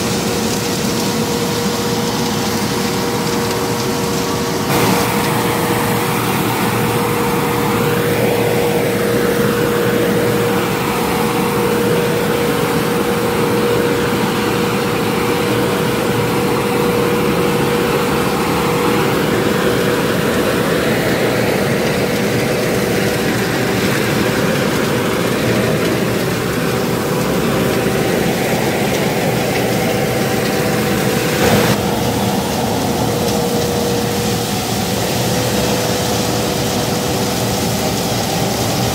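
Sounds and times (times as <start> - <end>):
constant whine: 0.0 - 38.9
road sweeper engine and fan drone: 0.0 - 38.9.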